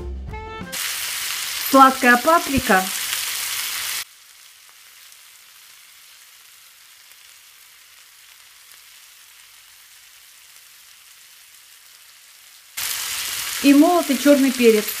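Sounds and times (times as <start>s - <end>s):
food sizzling in a frying pan: 0.7s - 15.0s.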